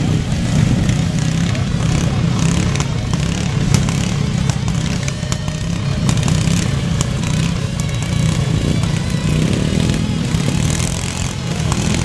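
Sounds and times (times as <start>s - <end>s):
lawn tractor engines running: 0.0s - 12.0s.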